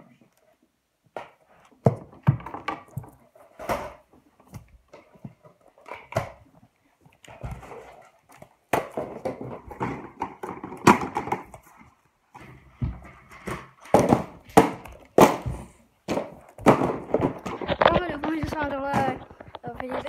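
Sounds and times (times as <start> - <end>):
rustling and shuffling: 0.0 - 20.0
toys knocking and thumping: 1.1 - 6.6, 8.7 - 20.0.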